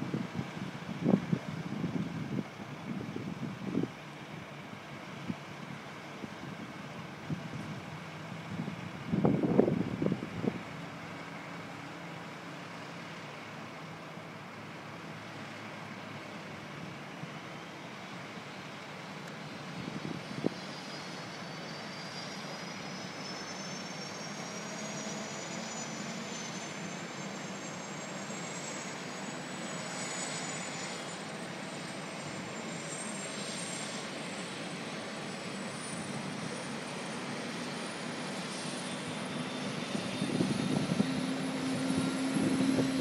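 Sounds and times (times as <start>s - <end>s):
helicopter turbine whine: 0.0s - 43.0s
rushing hum: 0.0s - 43.0s.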